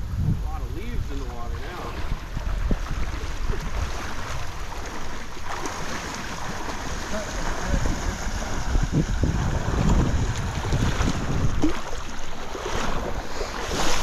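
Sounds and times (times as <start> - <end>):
wind rumble on microphone: 0.0 - 14.0
stream water rushing: 0.5 - 14.0.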